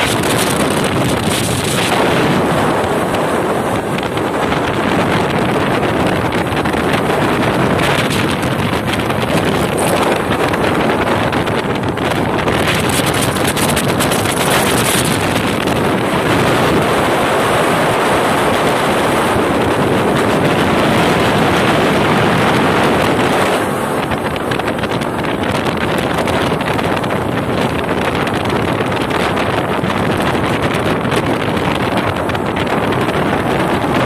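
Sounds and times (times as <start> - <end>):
motorboat engine: 0.0 - 34.0
rushing water: 0.0 - 34.0
wind buffeting microphone: 0.0 - 34.0.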